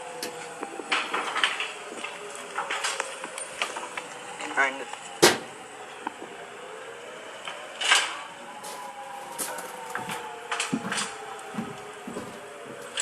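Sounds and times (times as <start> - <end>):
distant warning siren: 0.0 - 13.0.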